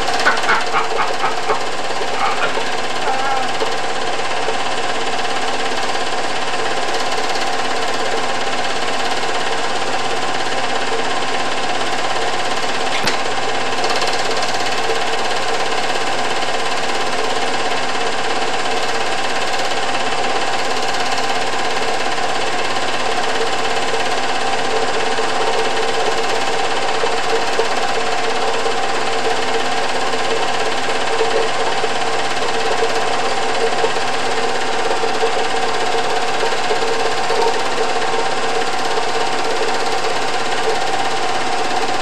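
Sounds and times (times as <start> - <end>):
film projector clattering: 0.0 - 42.0.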